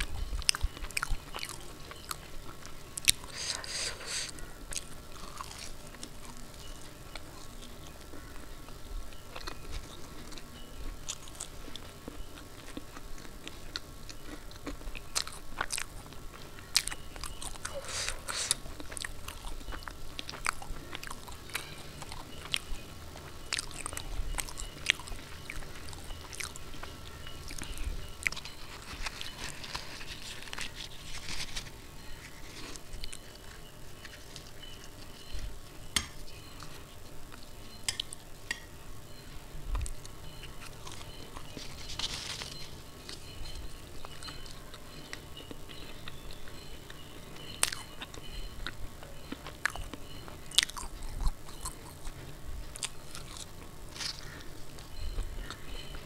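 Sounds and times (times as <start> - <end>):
chewing and mouth sounds: 0.0 - 56.0.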